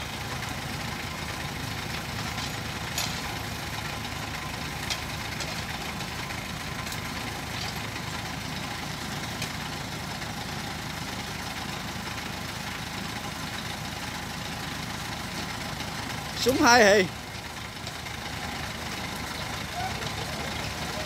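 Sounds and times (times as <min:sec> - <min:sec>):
diesel engine throbbing: 0:00.0 - 0:21.0.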